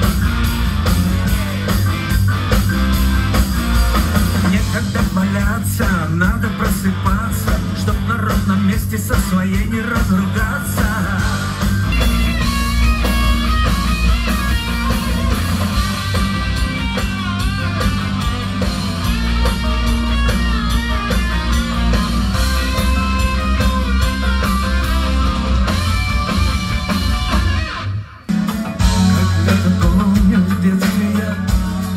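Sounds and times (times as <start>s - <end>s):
bass guitar: 0.0s - 31.9s
drums: 0.0s - 31.9s
electric guitar lead: 0.0s - 31.9s.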